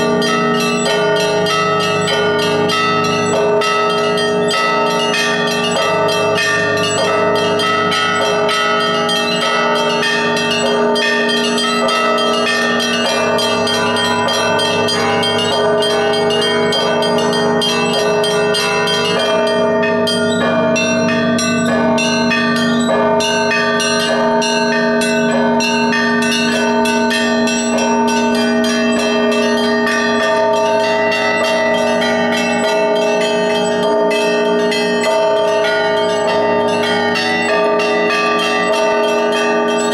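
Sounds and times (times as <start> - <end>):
rapid small bell strikes: 0.0 - 39.9
sustained large bell tones: 0.0 - 39.9.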